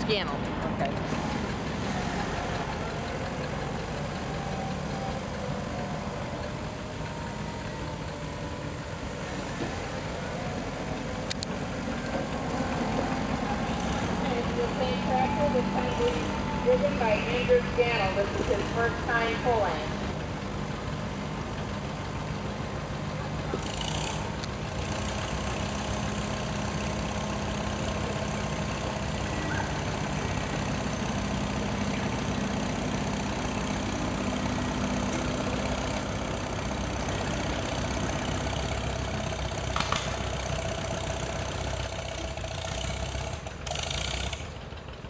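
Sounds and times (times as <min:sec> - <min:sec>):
tractor engine running under load: 0:00.0 - 0:45.0.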